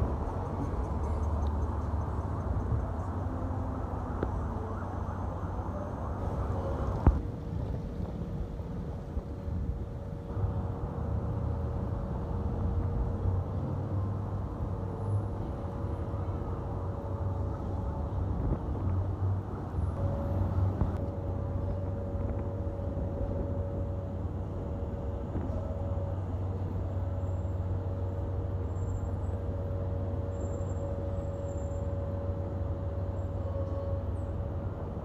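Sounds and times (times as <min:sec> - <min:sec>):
thin steady whine: 0:00.0 - 0:35.0
traffic engine drone: 0:00.0 - 0:35.0.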